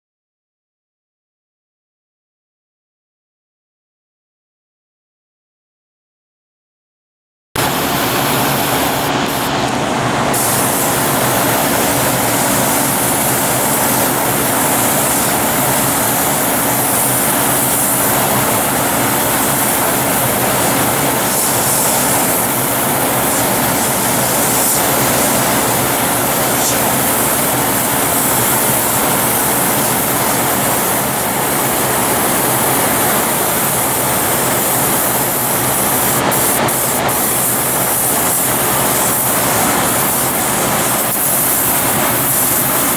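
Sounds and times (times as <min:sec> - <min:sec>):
airbrush spraying hiss: 0:07.6 - 0:42.9.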